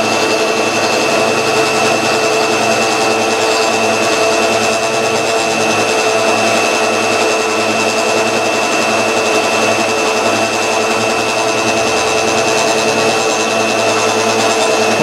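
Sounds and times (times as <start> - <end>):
grinder and lathe whining: 0.0 - 15.0.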